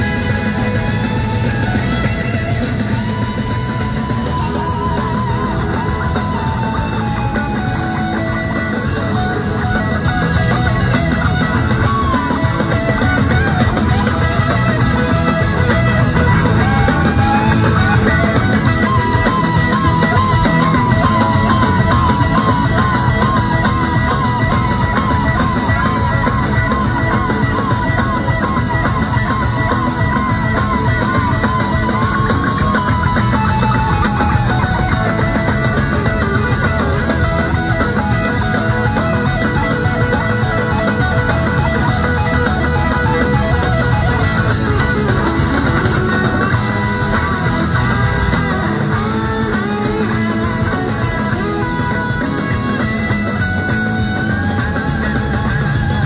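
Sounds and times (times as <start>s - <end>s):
lead guitar with vibrato: 0.0s - 56.0s
live rock band playing: 0.0s - 56.0s.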